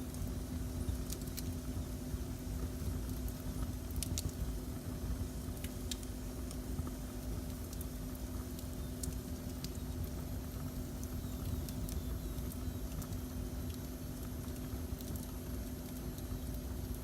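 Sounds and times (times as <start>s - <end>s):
faint hum: 0.0s - 17.0s
fire crackles and pops: 0.0s - 17.0s.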